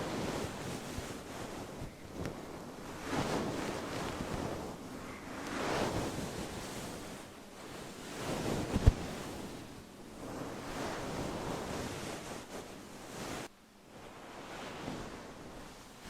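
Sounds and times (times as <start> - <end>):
windscreen rubbed on microphone: 0.0 - 16.0.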